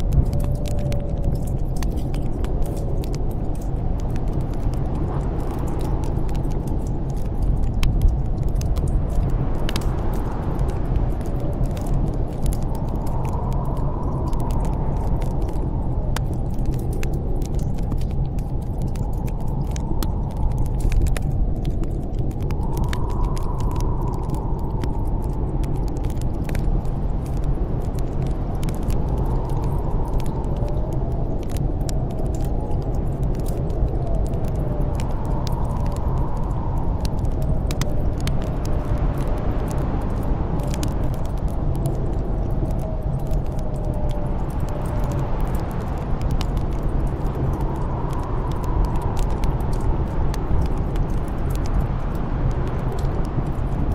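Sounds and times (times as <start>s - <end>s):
storm wind whistling: 0.0s - 53.9s
wood fire crackling: 0.0s - 53.9s.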